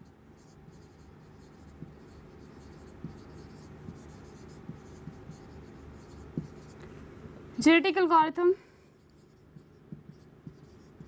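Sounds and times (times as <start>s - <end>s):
marker pen writing on whiteboard: 0.0s - 6.9s, 9.0s - 11.0s
steady low hum: 0.0s - 11.0s.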